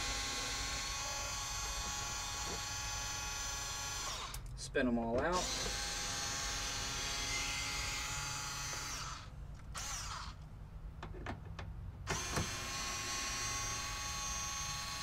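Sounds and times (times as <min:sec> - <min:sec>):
cordless screwdriver whining: 0:00.1 - 0:04.4, 0:05.4 - 0:10.4, 0:12.1 - 0:15.0.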